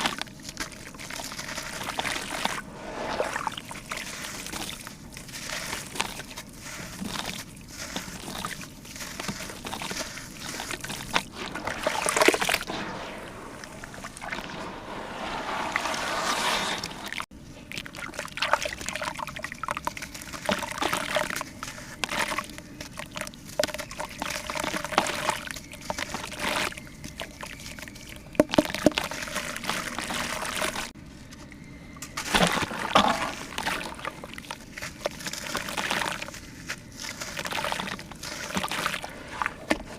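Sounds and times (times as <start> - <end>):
water pouring and sloshing: 0.0 - 31.0, 32.1 - 39.9.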